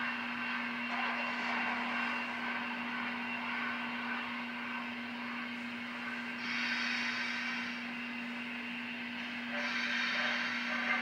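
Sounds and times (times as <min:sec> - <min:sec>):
constant low hum: 0:00.0 - 0:11.0
steam locomotive hissing: 0:00.0 - 0:11.0.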